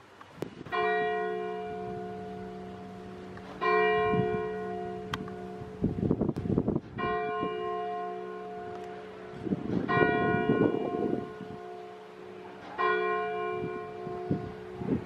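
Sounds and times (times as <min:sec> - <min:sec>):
church bell striking: 0:00.7 - 0:15.0.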